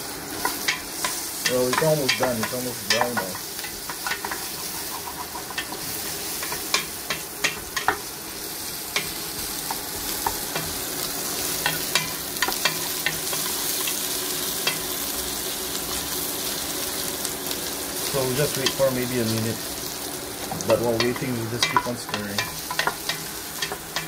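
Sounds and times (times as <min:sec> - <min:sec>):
vegetables sizzling in hot oil: 0:00.0 - 0:24.0.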